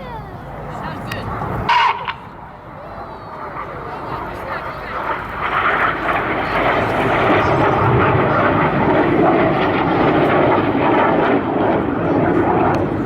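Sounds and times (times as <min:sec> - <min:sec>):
loud jet engine noise: 0:00.0 - 0:13.0.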